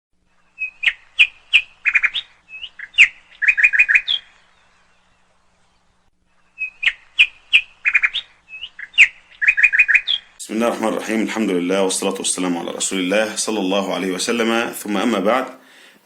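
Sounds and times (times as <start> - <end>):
songbird chirping: 0.2 - 16.0.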